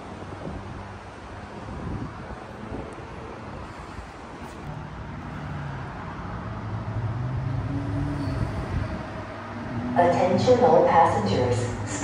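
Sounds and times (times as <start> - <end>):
rushing noise: 0.0 - 12.0
vehicle drone: 0.0 - 12.0.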